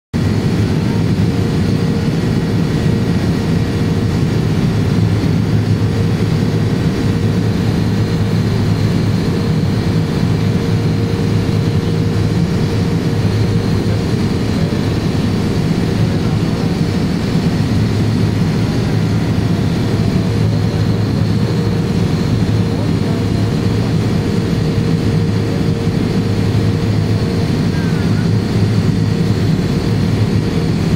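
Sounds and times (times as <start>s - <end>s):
turboprop cabin drone: 0.1s - 30.9s.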